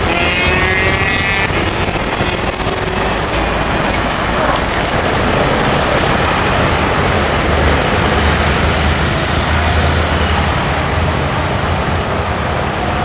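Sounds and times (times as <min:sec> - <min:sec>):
low engine rumble: 0:00.0 - 0:13.0
tyre and road noise: 0:00.0 - 0:13.0.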